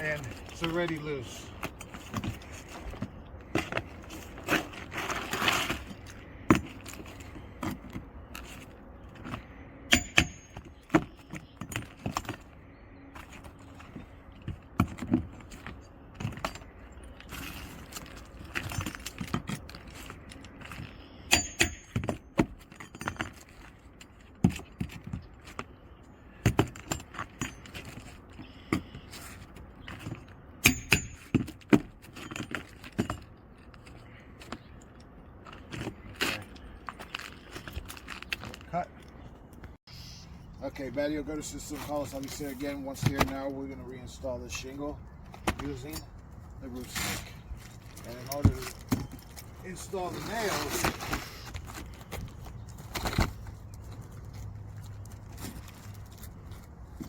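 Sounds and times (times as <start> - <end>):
tool scraping under shingles: 0.0 - 38.7, 40.9 - 57.0.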